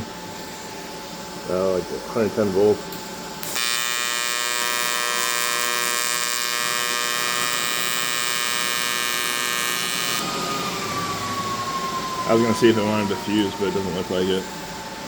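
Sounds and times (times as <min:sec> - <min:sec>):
welding arc buzzing: 0:02.5 - 0:15.0.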